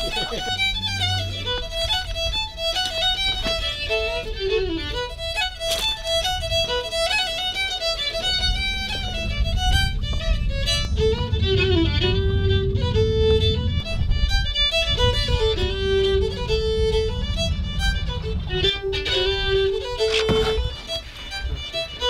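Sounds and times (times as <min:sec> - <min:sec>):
fiddle melody: 0:00.0 - 0:22.0
low musical accompaniment: 0:00.0 - 0:22.0.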